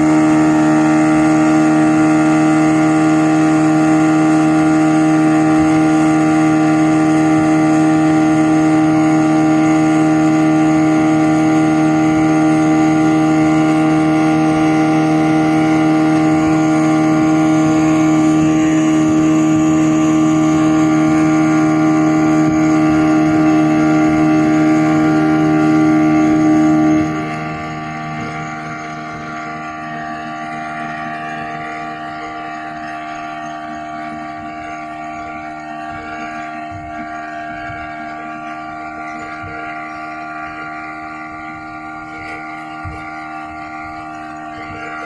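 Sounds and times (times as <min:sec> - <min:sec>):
outboard motor at full throttle: 0:00.0 - 0:45.0.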